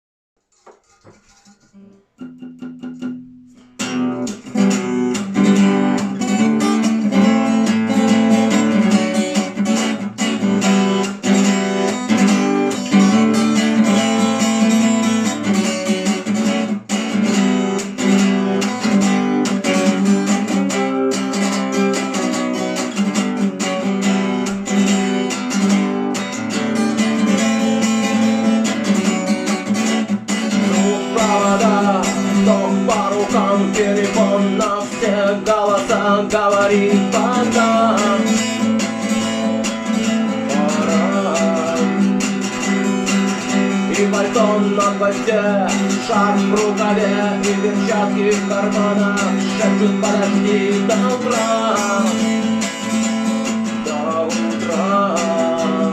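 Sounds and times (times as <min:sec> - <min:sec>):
acoustic guitar plucked notes: 0:00.6 - 0:55.9
acoustic guitar strumming chords: 0:00.6 - 0:55.9.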